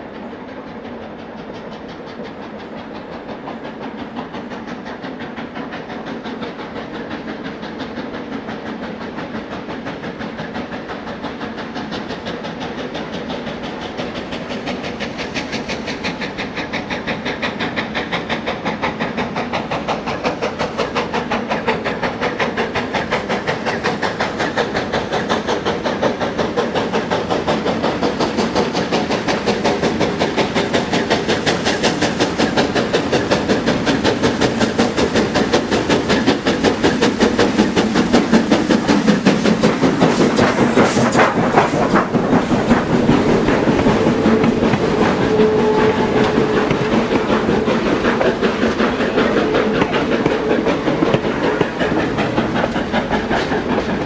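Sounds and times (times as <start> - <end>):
steam hissing: 0.0 - 54.0
steam locomotive exhaust chuffing: 0.0 - 54.0.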